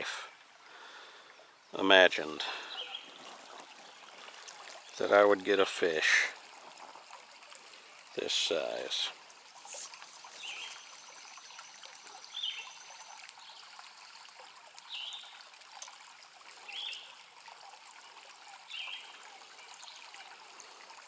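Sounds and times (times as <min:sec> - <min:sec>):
creek trickling over stones: 0:00.0 - 0:21.0.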